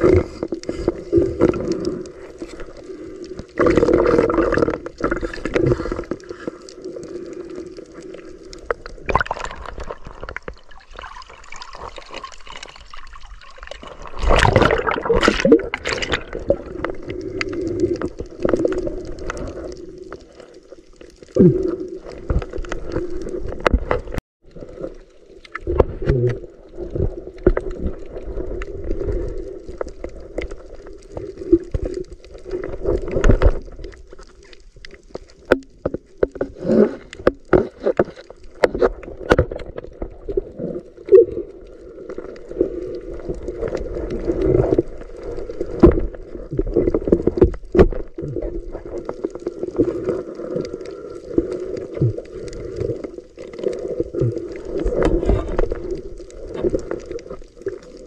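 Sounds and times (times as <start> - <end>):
muffled underwater water noise: 0.0 - 58.0.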